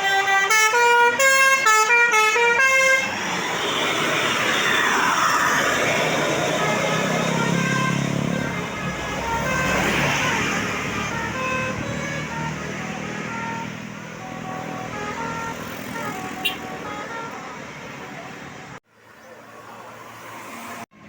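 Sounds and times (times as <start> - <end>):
multi-tone bus horn tune: 0.0 - 4.4, 6.0 - 18.8
traffic noise: 0.0 - 21.0.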